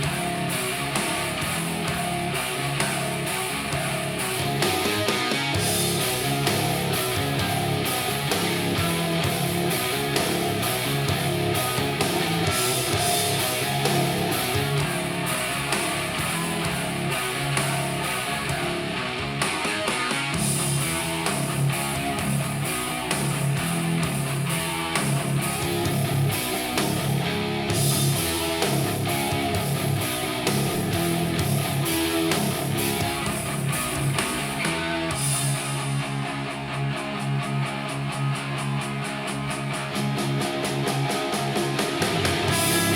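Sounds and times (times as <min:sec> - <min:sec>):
rock music through computer speakers: 0:00.0 - 0:42.9.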